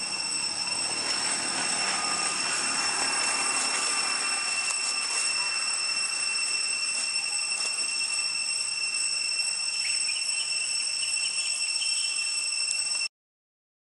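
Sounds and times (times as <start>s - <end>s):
cicadas droning: 0.0s - 13.1s.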